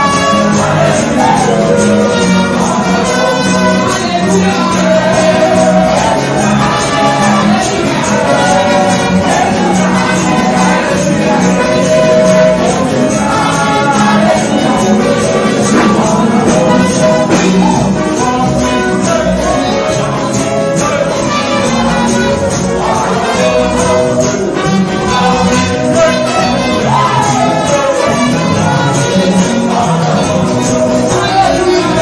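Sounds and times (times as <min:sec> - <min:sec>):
band playing steady beat: 0:00.0 - 0:32.0
person singing into microphone: 0:00.0 - 0:32.0.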